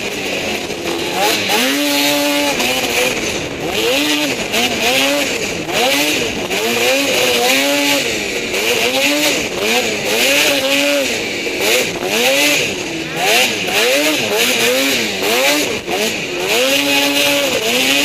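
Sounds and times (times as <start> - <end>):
steady rush of noise: 0.0 - 16.4
snowmobile engine revving: 0.0 - 18.0.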